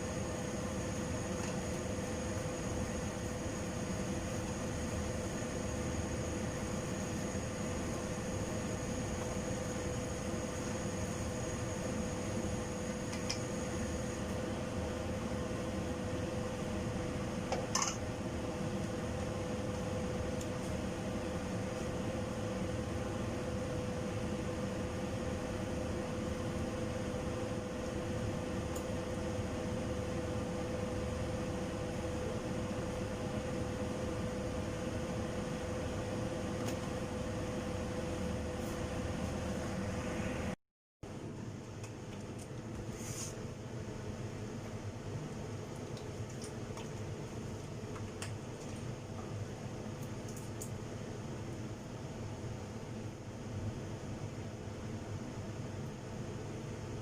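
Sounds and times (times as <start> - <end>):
fan-like hum: 0.0 - 57.0.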